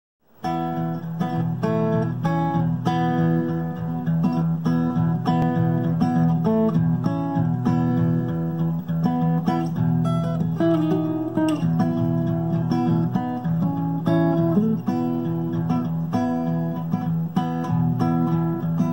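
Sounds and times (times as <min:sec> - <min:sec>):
acoustic guitar playing: 0:00.2 - 0:18.9.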